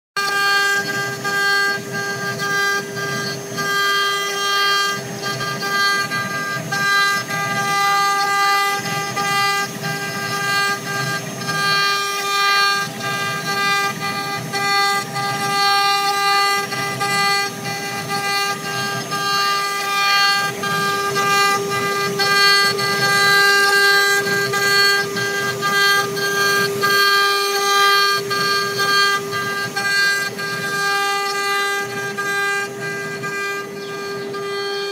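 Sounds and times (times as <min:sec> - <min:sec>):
bit cutting wood: 0:00.2 - 0:34.9
router spindle whine: 0:00.2 - 0:34.9.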